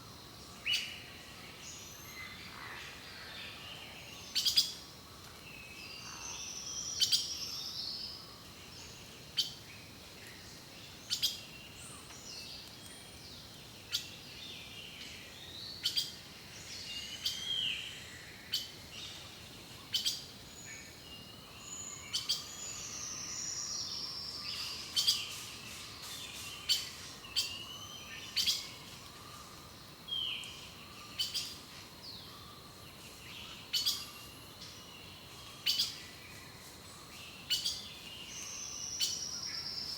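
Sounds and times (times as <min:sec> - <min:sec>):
wild birds singing and calling: 0:00.0 - 0:39.9.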